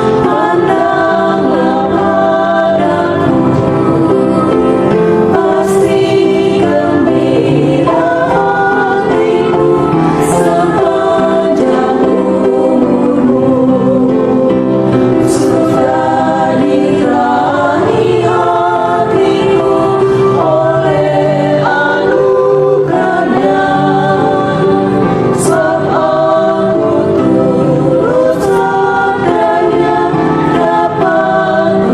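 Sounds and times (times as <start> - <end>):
choir singing in harmony: 0.0 - 31.9.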